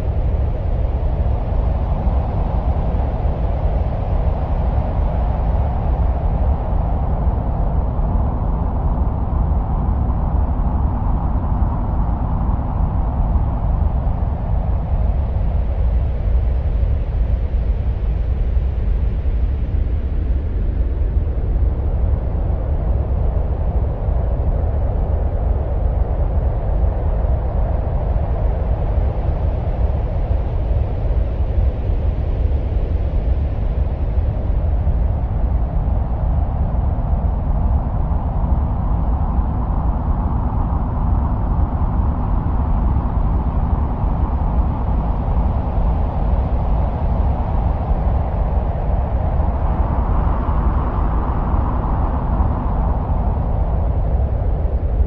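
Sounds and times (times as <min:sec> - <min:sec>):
deep rumbling wind-like noise: 0:00.0 - 0:55.0.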